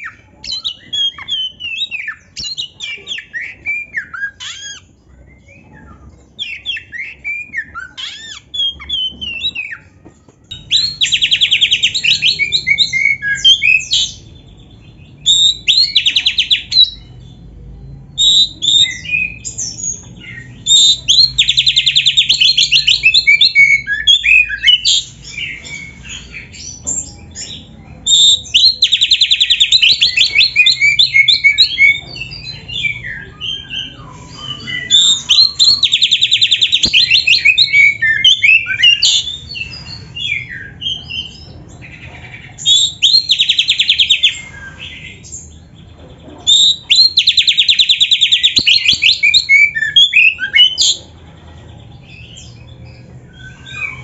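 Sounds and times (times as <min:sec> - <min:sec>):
songbird singing trills and whistles: 0:00.0 - 0:45.7, 0:46.4 - 0:51.1, 0:52.0 - 0:54.0.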